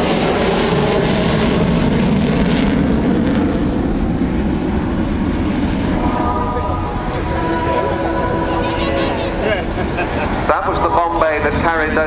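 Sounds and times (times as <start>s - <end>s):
jet bomber flying past: 0.0s - 12.0s.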